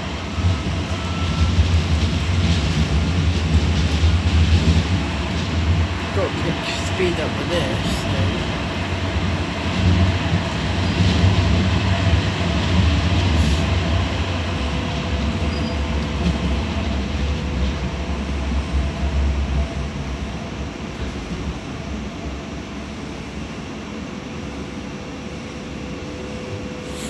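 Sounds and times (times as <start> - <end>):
tram wheels rumbling: 0.0 - 27.0.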